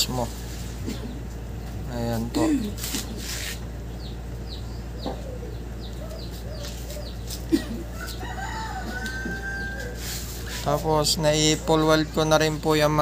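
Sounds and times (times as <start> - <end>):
birds chirping: 0.0 - 13.0
steady low hum: 0.0 - 13.0
low clucking bird calls: 0.6 - 12.5.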